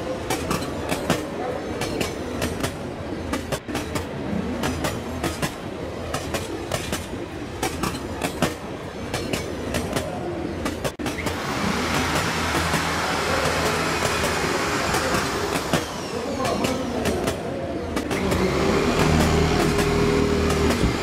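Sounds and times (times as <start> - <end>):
model train rumbling: 0.0 - 21.0
wheels clicking on rail joints: 0.0 - 21.0.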